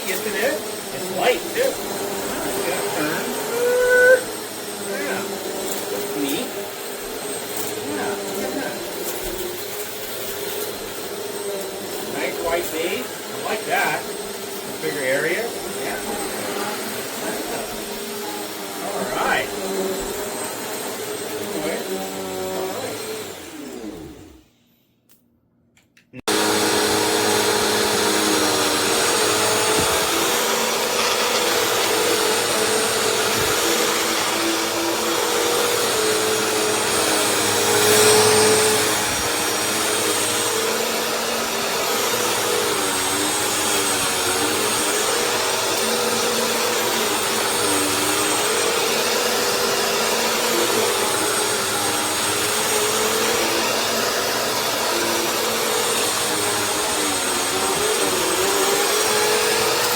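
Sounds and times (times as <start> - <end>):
upright vacuum cleaner running: 0.0 - 24.5, 26.3 - 59.9.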